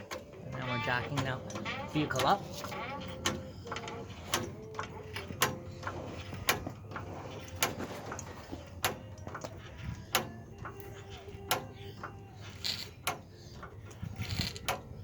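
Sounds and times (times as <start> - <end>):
floor jack pumping clicks: 0.0 - 15.0.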